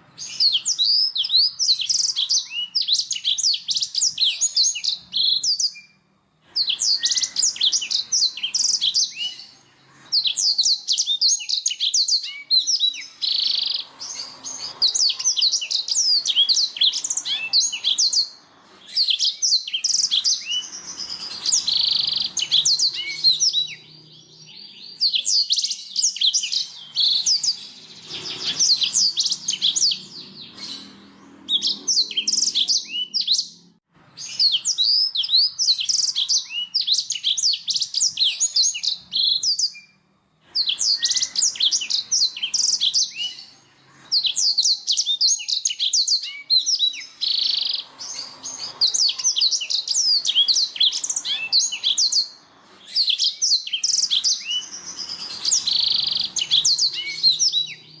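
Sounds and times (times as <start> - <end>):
canary trilling: 0.0 - 58.0.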